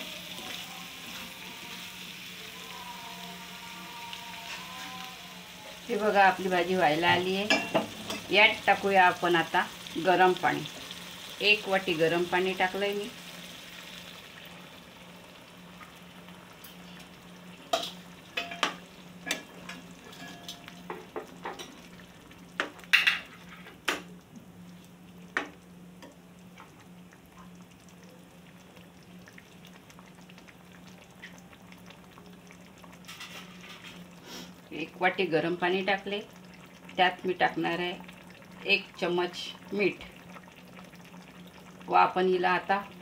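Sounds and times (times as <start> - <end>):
faint sizzle: 0.0 - 43.0.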